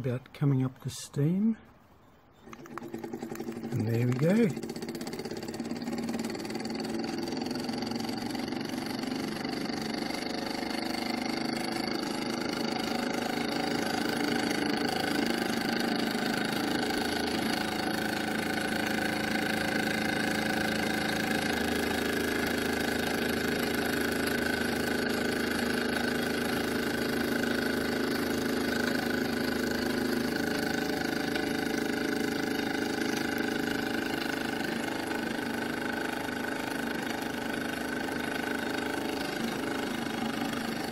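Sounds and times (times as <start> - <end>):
model steam engine running: 2.4 - 40.9.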